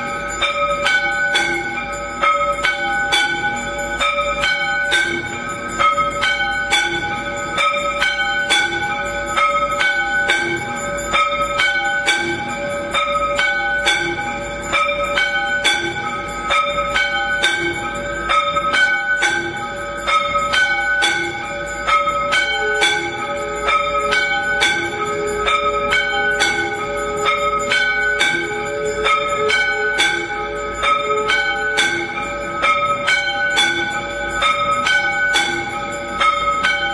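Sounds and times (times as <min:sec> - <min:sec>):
temple bells ringing: 0:00.0 - 0:36.9.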